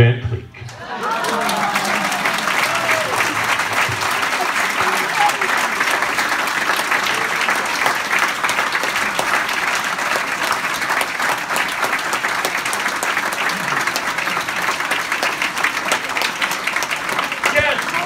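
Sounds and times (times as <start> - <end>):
audience applauding: 0.7 - 18.0.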